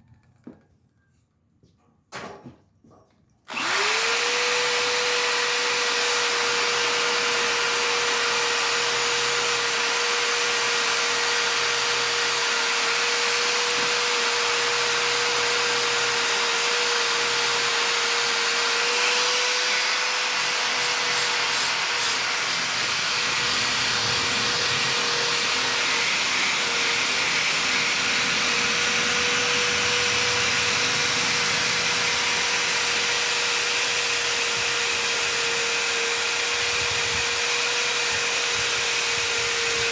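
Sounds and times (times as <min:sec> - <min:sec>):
handheld power sander whining: 0:03.5 - 0:39.9.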